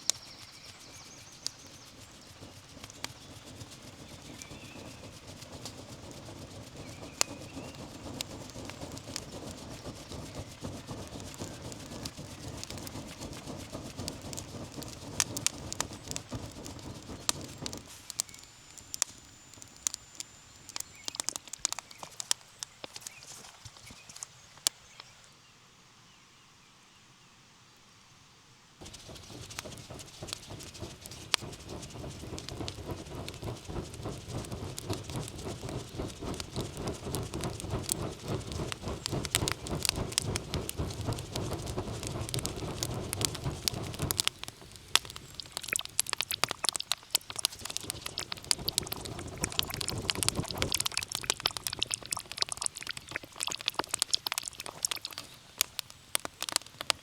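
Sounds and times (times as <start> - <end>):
rain pattering: 0.0 - 24.2, 28.8 - 57.0.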